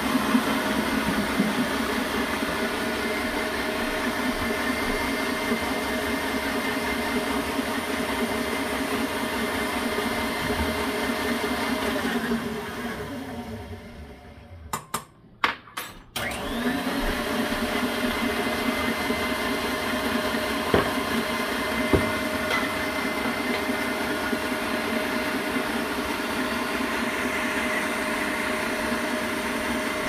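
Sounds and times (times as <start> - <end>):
stand mixer motor whirring: 0.0 - 14.7, 16.2 - 30.0.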